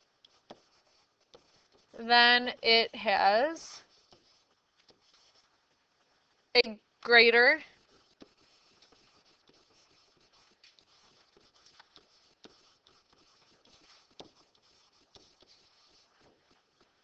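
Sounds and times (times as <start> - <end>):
stylus scratching on whiteboard: 0.0 - 6.4, 7.1 - 17.0.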